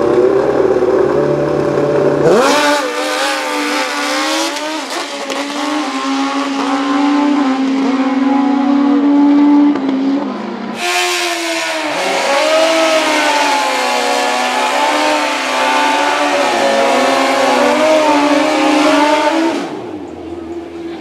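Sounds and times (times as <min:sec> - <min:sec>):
dirt bike engines revving high: 0:00.0 - 0:21.0.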